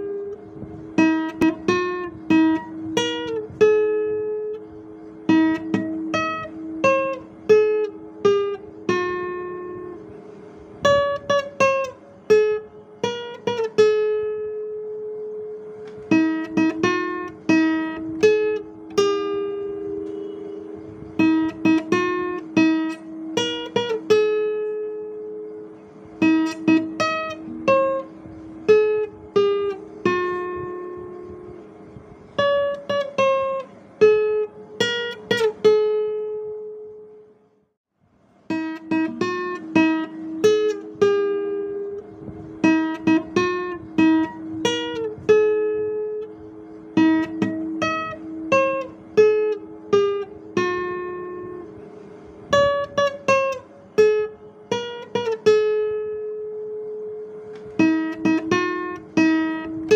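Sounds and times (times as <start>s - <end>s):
solo guitar melody: 0.0s - 37.6s, 38.3s - 59.9s.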